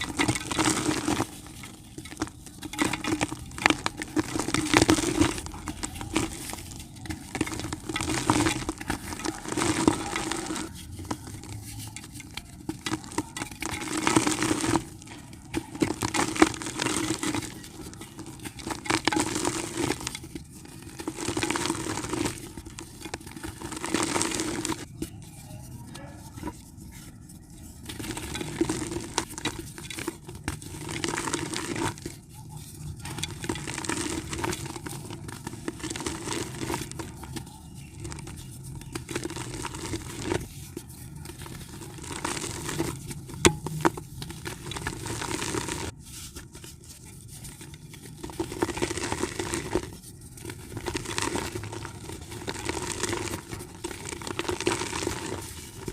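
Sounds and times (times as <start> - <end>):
dry dirt crumbling: 0.0 - 55.9.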